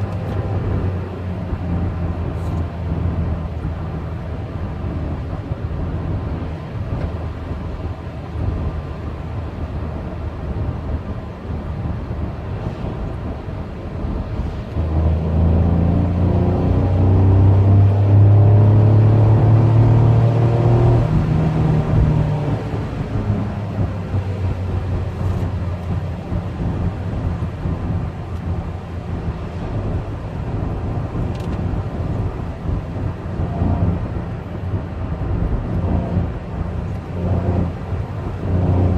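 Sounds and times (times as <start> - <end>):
car engine running at speed: 0.0 - 38.9
road rumble: 0.0 - 38.9.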